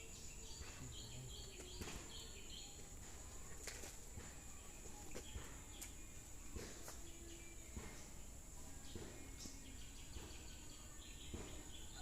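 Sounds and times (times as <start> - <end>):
bird chirps: 0.0 - 12.0
high insect drone: 0.0 - 12.0.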